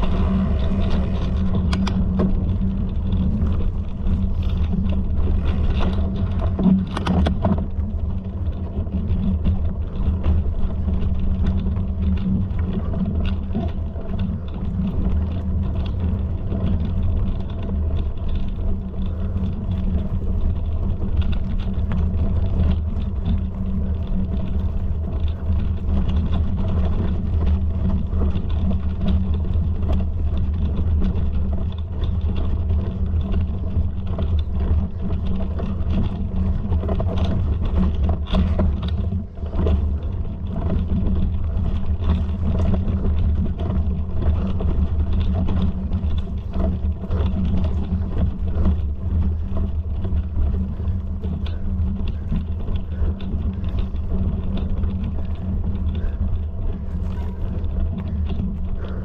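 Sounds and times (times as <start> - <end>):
low rumble: 0.0 - 59.0
small clicks and rattles: 0.0 - 59.0.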